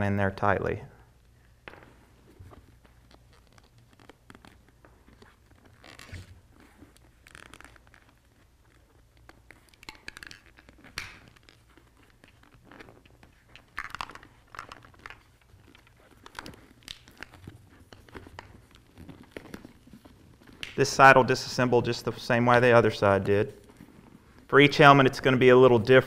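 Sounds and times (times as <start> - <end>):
scraping and crinkling handling: 1.7 - 26.0.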